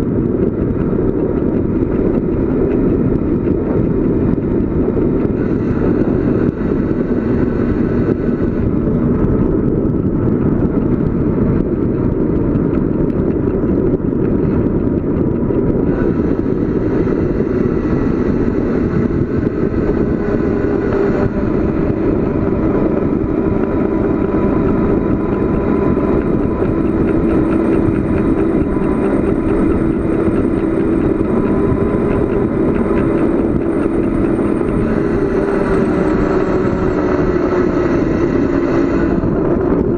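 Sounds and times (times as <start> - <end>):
wind rush and road noise: 0.0 - 39.9.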